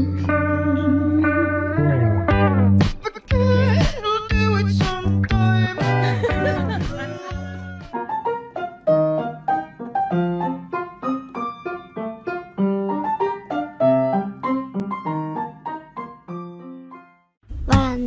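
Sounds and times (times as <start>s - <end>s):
piano music: 0.0s - 17.4s.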